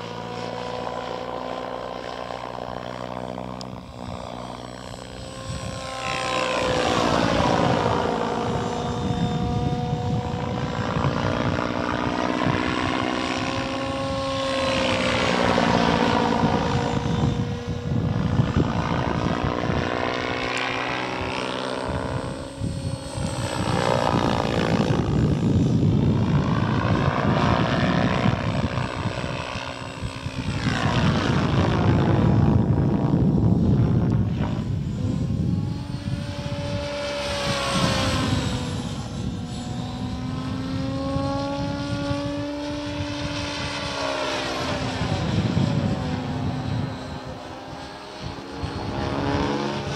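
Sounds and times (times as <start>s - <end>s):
helicopter rotor blades buzzing: 0.0s - 49.9s.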